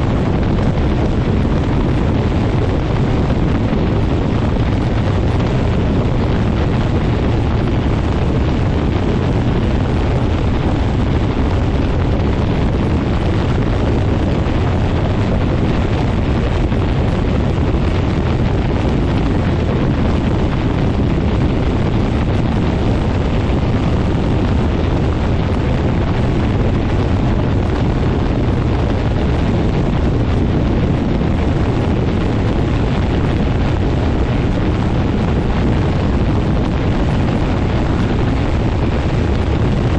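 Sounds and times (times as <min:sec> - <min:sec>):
plane engine and propeller: 0:00.0 - 0:39.9.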